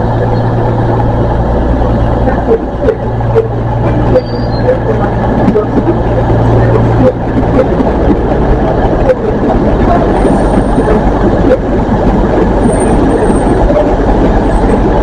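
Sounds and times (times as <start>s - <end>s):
diesel engine drone: 0.0s - 15.0s
wheel-on-rail rumble: 0.0s - 15.0s.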